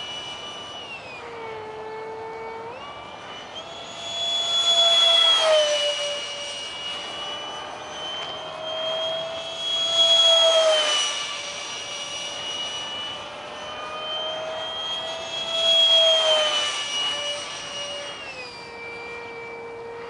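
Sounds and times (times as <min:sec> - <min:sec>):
model jet fan whining: 0:00.0 - 0:20.0.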